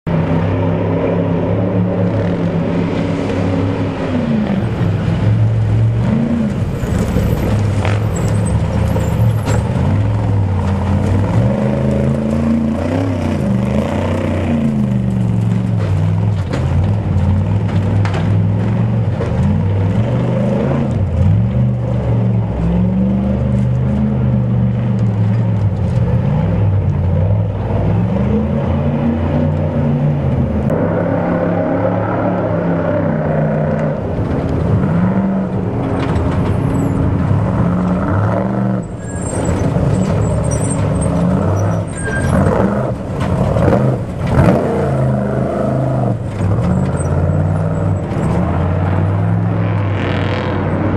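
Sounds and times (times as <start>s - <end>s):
race truck engines revving: 0.1s - 50.9s.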